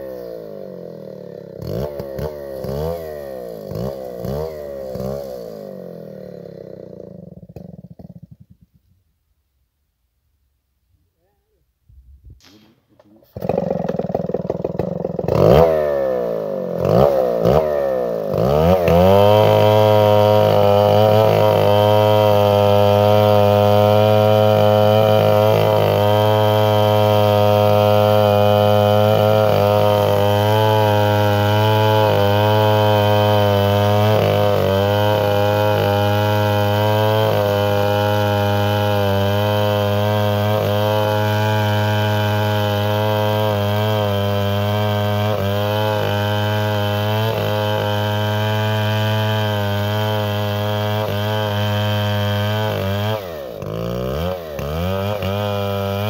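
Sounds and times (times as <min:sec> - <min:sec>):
chainsaw revving: 0:00.0 - 0:08.6, 0:12.4 - 0:56.0.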